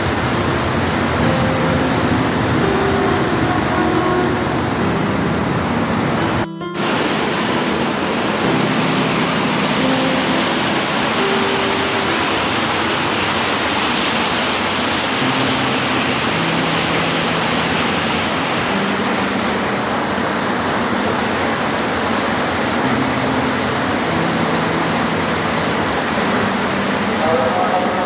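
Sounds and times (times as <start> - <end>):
heavy rain hiss: 0.0 - 28.0.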